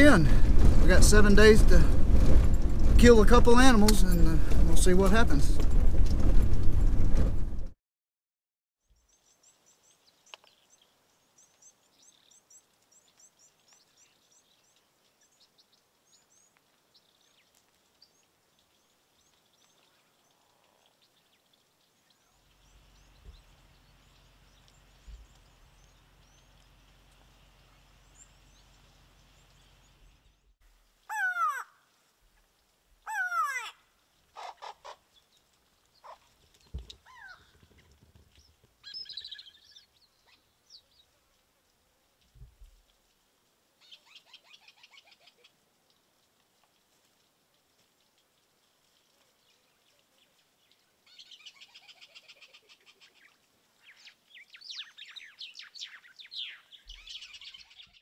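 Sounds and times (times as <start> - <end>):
small birds chirping: 8.8 - 42.5, 43.8 - 58.0.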